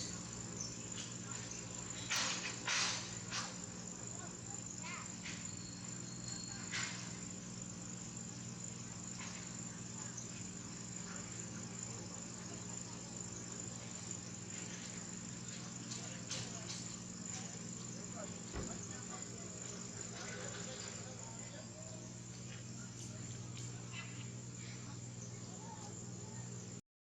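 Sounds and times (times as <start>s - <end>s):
insects droning: 0.0s - 26.8s.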